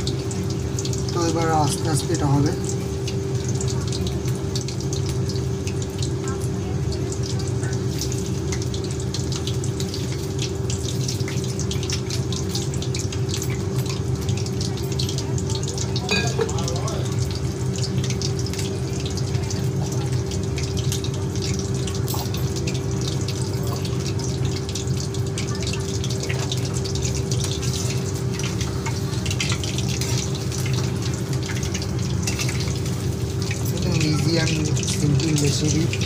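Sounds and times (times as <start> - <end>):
food deep-frying in oil: 0.0 - 36.0.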